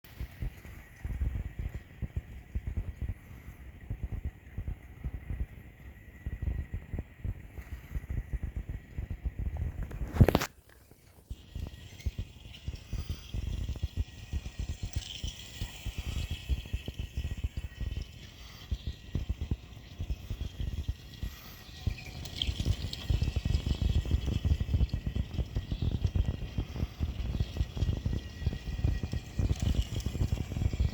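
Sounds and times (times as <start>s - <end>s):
model vehicle rattling and ticking: 0.1s - 30.9s.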